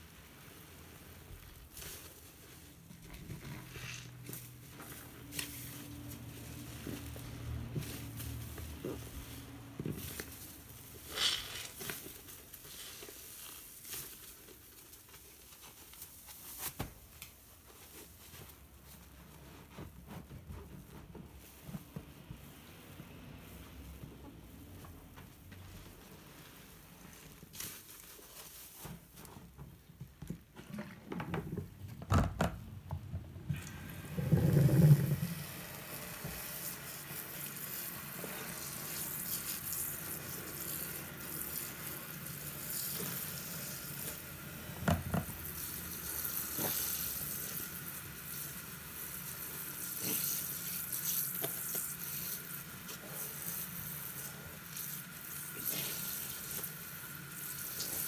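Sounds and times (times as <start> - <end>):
foam sponge squelching: 0.0 - 30.5, 33.5 - 58.0.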